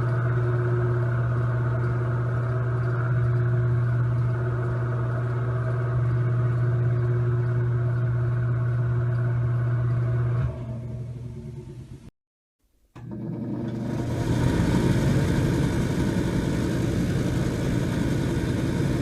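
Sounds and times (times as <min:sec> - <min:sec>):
electric fan running: 0:00.0 - 0:12.1, 0:12.9 - 0:19.0.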